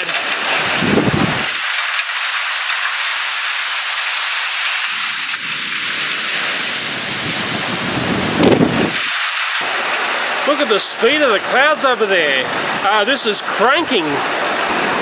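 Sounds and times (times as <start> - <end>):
heavy rain and strong wind: 0.0 - 15.0.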